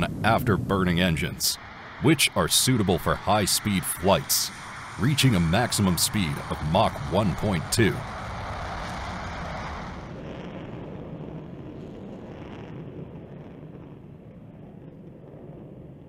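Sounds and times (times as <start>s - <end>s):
jet engines roaring at takeoff: 0.0s - 16.0s.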